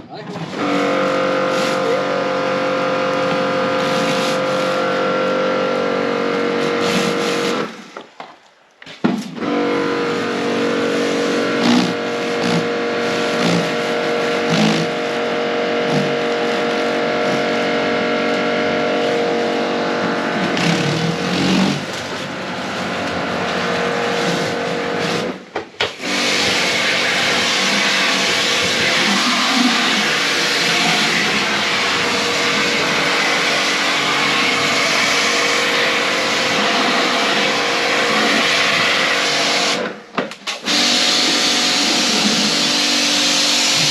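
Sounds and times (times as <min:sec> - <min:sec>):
pressure washer motor drone: 0:00.0 - 0:08.0, 0:09.3 - 0:43.9
water jet hissing: 0:00.4 - 0:08.0, 0:09.4 - 0:25.4, 0:26.0 - 0:39.8, 0:40.6 - 0:43.9.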